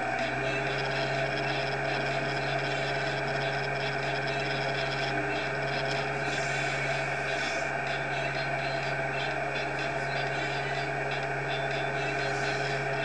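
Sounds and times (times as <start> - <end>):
feed mixer wagon droning: 0.0 - 13.0.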